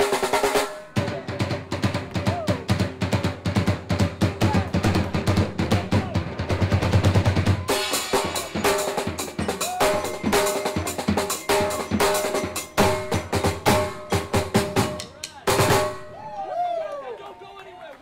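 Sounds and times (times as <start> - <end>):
bucket and drum percussion: 0.0 - 16.4.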